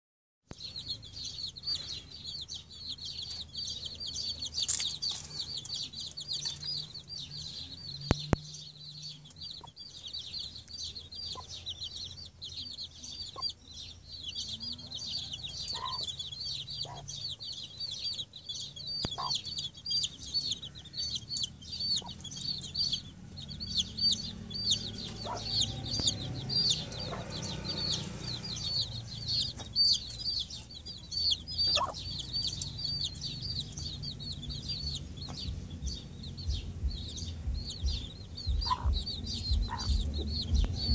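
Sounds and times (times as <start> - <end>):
baby chicks peeping: 0.5 - 40.9.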